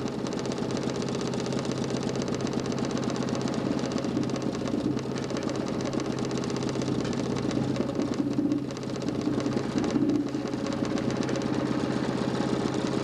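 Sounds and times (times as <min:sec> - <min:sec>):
spinning disc clatter: 0:00.0 - 0:13.0.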